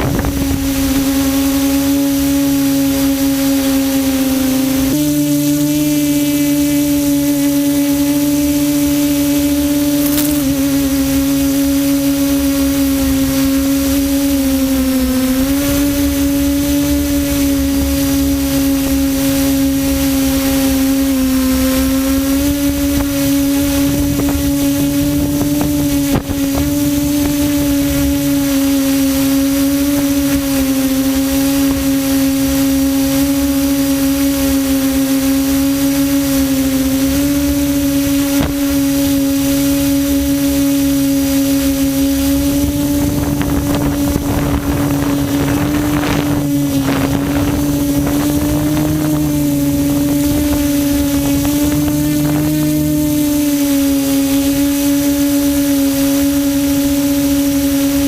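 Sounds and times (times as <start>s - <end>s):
quadcopter propellers humming: 0.0s - 58.0s.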